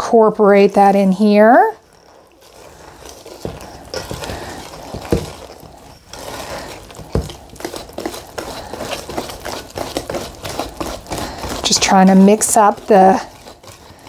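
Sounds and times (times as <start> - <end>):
whisk beating batter in metal bowl: 0.8 - 14.0.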